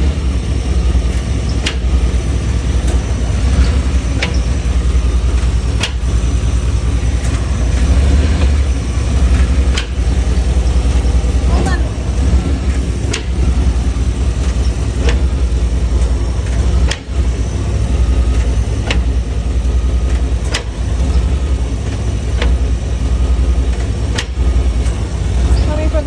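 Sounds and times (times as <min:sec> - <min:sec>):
pickup engine running: 0:00.0 - 0:26.0.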